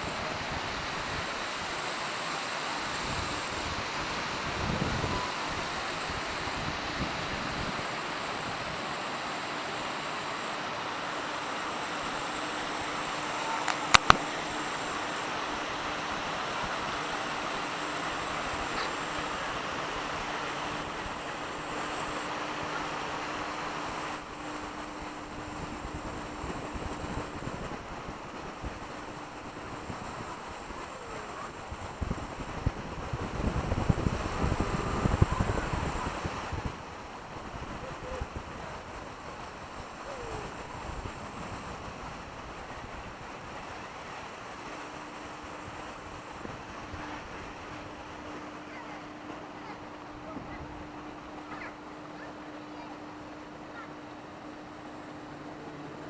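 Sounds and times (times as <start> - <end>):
gusts buffeting microphone: 0.0 - 10.0, 10.6 - 56.0
wind rushing on microphone: 0.0 - 10.0, 11.6 - 52.5
faint steady hum: 0.0 - 56.0.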